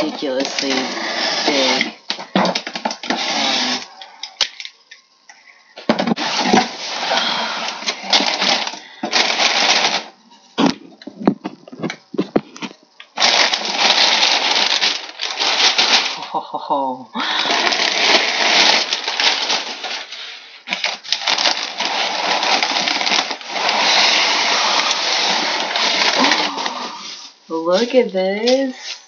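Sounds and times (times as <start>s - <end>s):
packing paper rustling: 0.0s - 3.2s, 6.0s - 16.4s, 17.4s - 27.4s.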